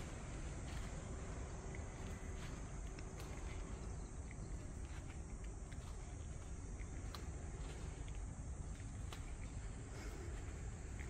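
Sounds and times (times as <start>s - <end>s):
faint steady hum: 0.0s - 11.0s
faint clicks: 1.6s - 11.0s.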